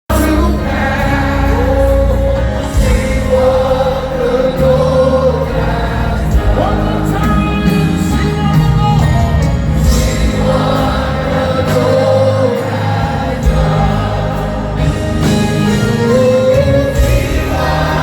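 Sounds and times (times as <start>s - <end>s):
band playing gospel music: 0.1s - 18.0s
choir singing: 0.1s - 18.0s
steady bass: 0.1s - 18.0s
sung vocal holding long notes: 0.1s - 18.0s.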